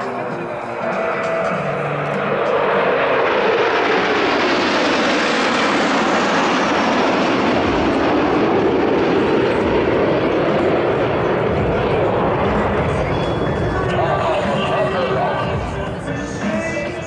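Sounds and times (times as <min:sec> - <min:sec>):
jets roaring overhead: 0:00.0 - 0:17.0.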